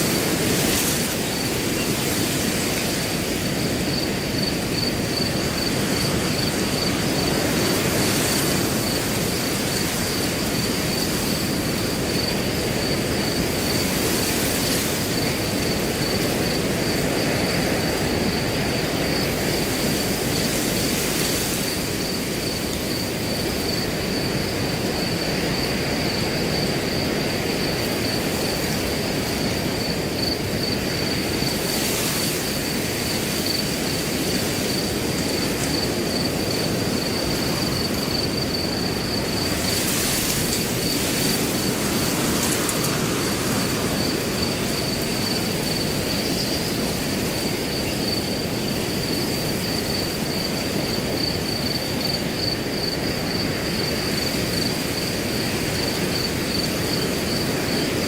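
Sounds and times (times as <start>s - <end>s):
crickets trilling: 0.0s - 58.0s
wind blowing through grass: 0.0s - 58.0s.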